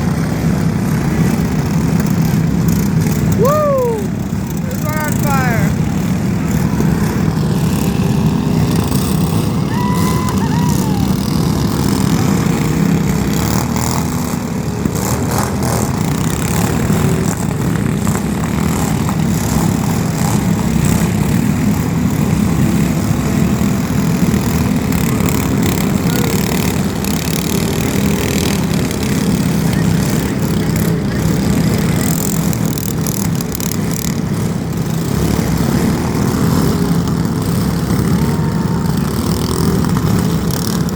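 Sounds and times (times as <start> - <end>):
small engines running: 0.0 - 40.9.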